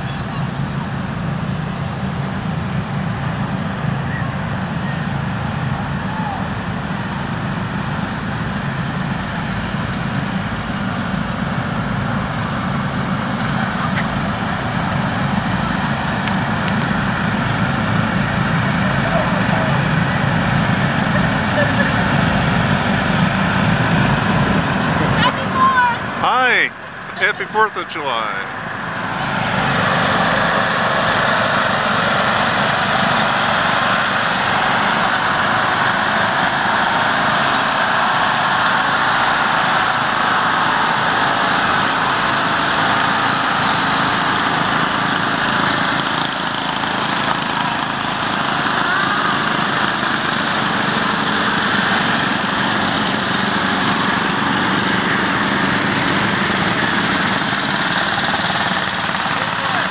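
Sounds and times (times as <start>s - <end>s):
lawn mower engines running: 0.0s - 59.9s.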